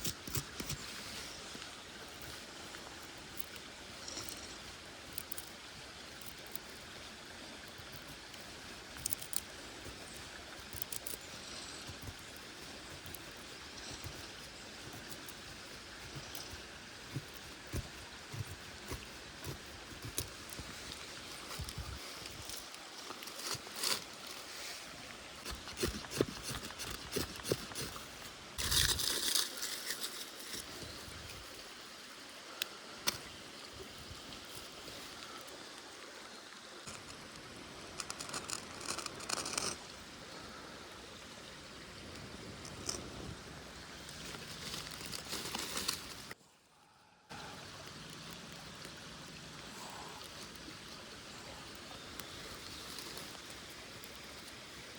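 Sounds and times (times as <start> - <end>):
small stream running: 0.0 - 54.9.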